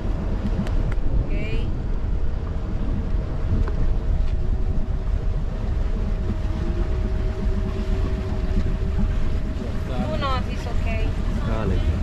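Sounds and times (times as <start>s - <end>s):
boat engine rumbling: 0.0s - 12.0s
wind buffeting microphone: 0.0s - 12.0s.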